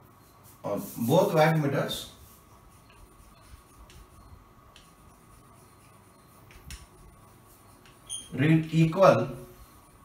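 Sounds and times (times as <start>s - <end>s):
chalk tapping and scratching: 0.1s - 10.0s.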